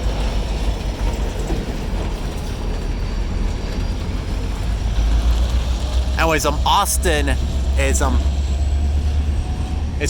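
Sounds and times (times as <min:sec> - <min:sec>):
freight train rumbling: 0:00.0 - 0:10.0.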